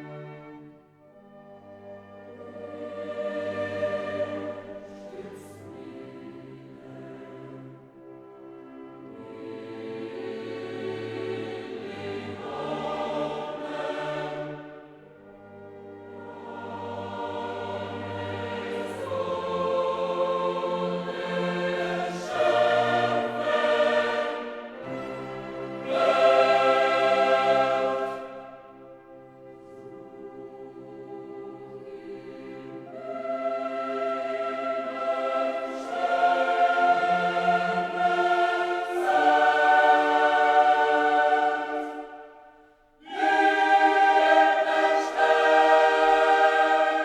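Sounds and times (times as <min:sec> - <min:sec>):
choir singing held chords: 0:00.0 - 0:47.0.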